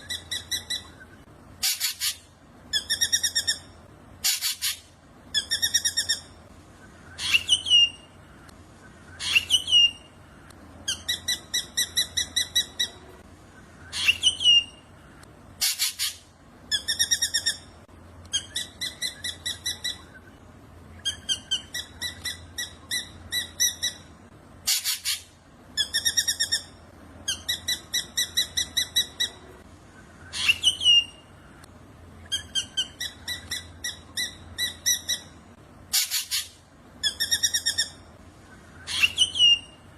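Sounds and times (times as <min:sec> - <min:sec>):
bird calling: 0:00.0 - 0:17.7, 0:24.7 - 0:39.9.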